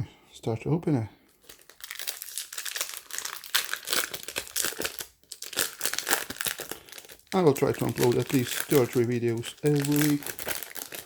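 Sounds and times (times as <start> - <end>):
foil wrapper crinkling: 1.3 - 11.0.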